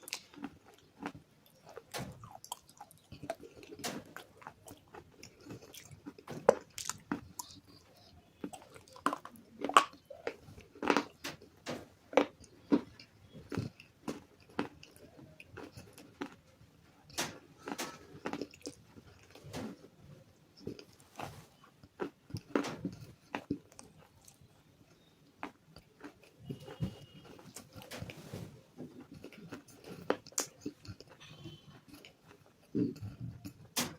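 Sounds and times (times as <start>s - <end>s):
crunching and chewing: 0.0s - 28.1s, 28.7s - 33.9s.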